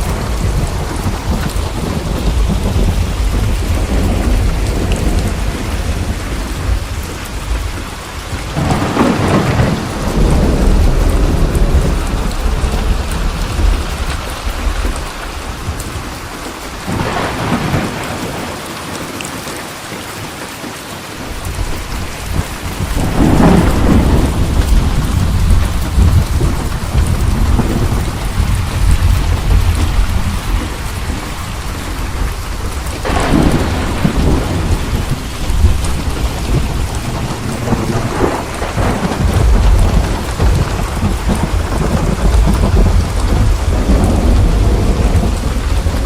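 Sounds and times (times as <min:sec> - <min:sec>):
rolling thunder: 0:00.0 - 0:18.7, 0:21.3 - 0:46.0
heavy rain: 0:00.0 - 0:46.0.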